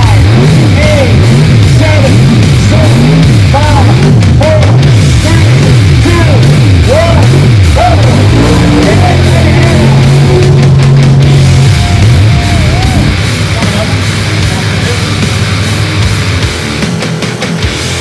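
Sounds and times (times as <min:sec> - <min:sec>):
loud heavy metal music: 0:00.0 - 0:18.0.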